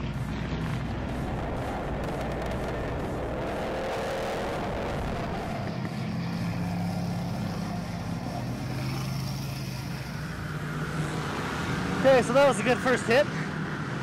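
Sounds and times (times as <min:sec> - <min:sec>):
race car engines running: 0:00.0 - 0:14.0.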